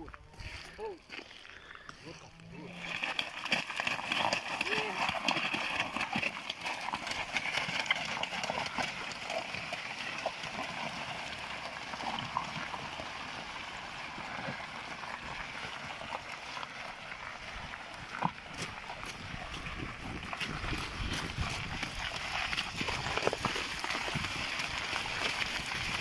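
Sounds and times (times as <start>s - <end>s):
cart rolling over stones: 0.0s - 26.0s
hooves clopping on gravel: 0.0s - 26.0s.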